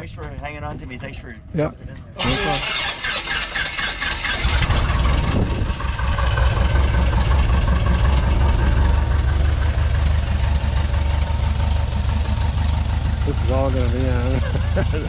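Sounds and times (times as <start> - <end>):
piston engine starting and idling: 2.2 - 15.0.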